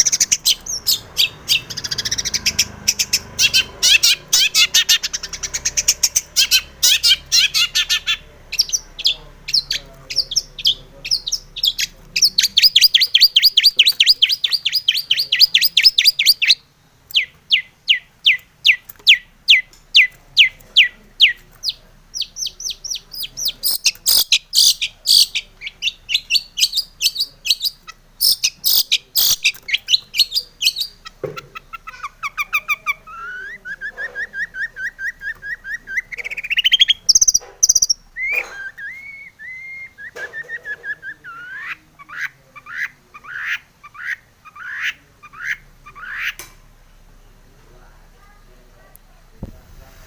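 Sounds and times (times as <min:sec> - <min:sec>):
bird singing sharp calls and trills: 0:00.0 - 0:46.4.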